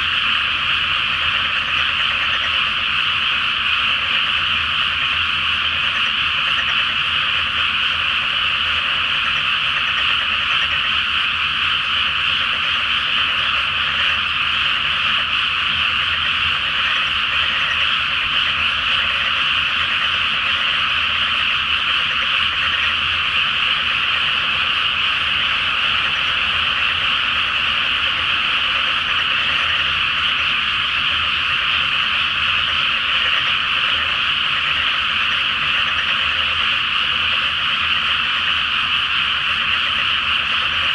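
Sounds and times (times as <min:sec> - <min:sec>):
chorus of frogs croaking: 0:00.0 - 0:40.9.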